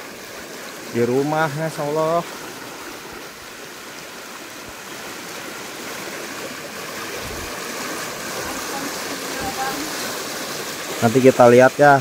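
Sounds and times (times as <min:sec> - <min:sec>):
water rushing in a channel: 0:00.0 - 0:12.0.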